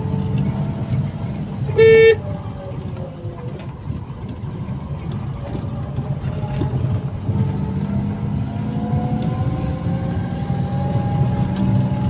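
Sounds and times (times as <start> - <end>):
vehicle rumbling on dirt road: 0.0 - 12.0.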